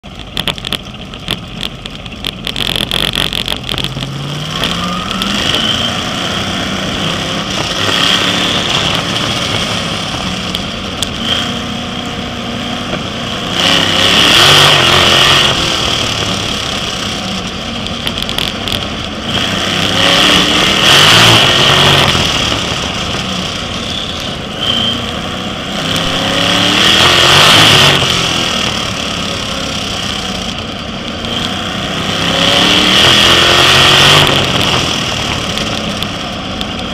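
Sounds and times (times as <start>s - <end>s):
race car engine revving: 0.0s - 36.9s.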